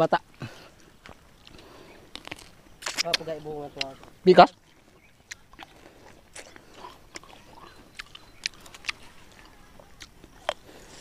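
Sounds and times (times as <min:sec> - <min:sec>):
person chewing fruit: 0:00.2 - 0:11.0.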